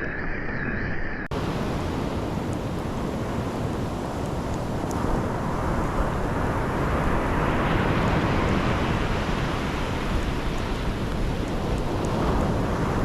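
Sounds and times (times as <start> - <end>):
ocean surf washing onto beach: 1.3 - 13.0
wind rumbling on microphone: 1.3 - 13.0.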